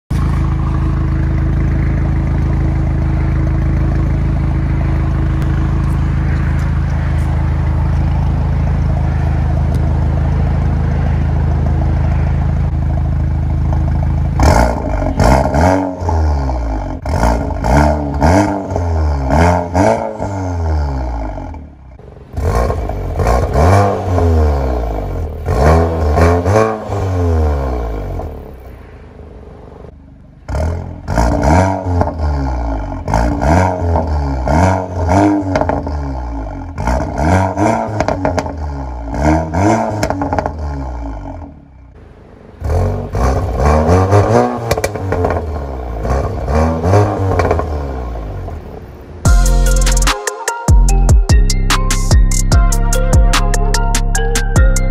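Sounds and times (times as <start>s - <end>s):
car engine idling: 0.1s - 50.1s
car engine revving in blips: 0.1s - 50.2s.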